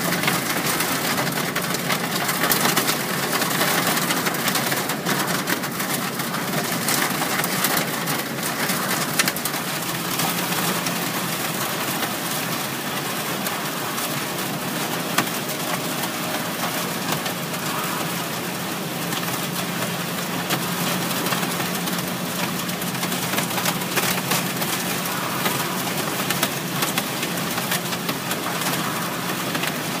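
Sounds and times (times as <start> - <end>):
car running hum: 0.0 - 30.0
rain pattering on a car: 0.0 - 30.0.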